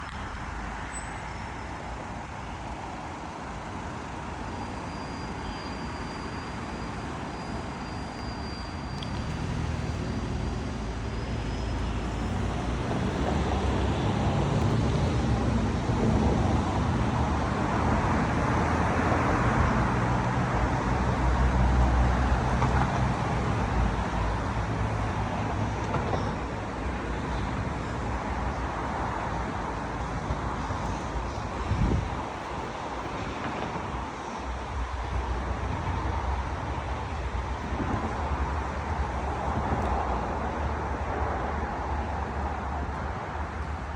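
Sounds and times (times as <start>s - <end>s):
large vehicle engine hum: 0.0s - 43.9s
street traffic: 0.0s - 43.9s.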